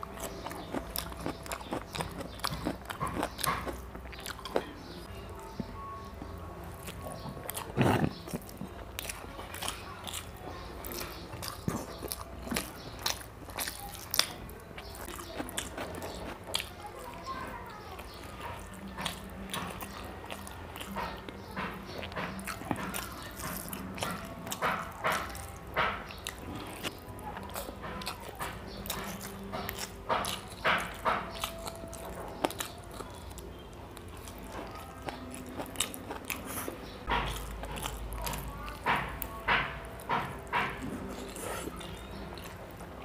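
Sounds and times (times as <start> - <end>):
chewing smacks and clicks: 0.0 - 5.1, 6.1 - 43.0.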